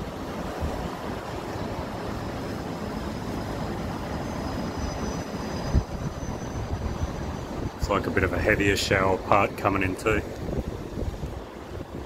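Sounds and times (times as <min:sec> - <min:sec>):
heavy rain: 0:00.0 - 0:12.0
wind gusts on microphone: 0:00.0 - 0:12.0.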